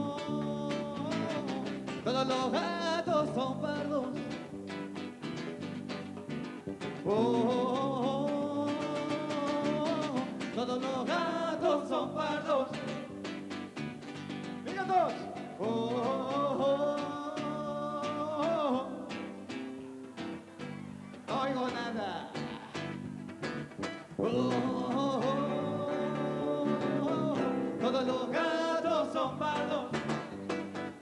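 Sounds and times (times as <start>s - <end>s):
person singing: 0.0s - 4.8s, 6.8s - 13.7s, 14.6s - 23.1s, 24.1s - 31.0s
guitar: 0.0s - 31.0s.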